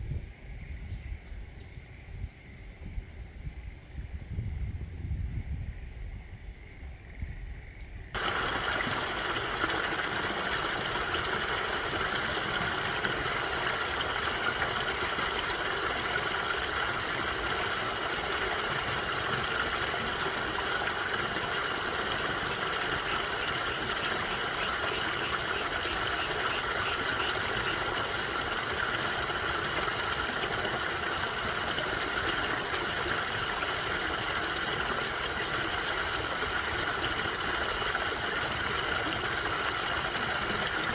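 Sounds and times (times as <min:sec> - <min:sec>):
stream trickling and babbling: 0:07.0 - 0:40.9.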